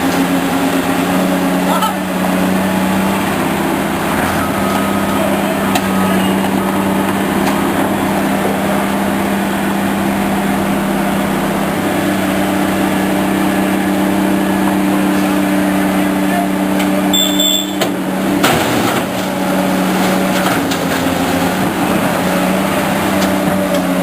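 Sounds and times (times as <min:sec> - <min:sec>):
heavy machinery engine humming: 0:00.0 - 0:24.0.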